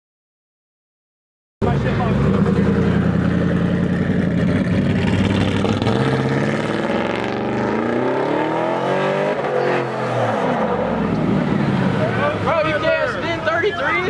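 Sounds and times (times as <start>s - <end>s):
vehicle engine revving: 1.6s - 13.4s.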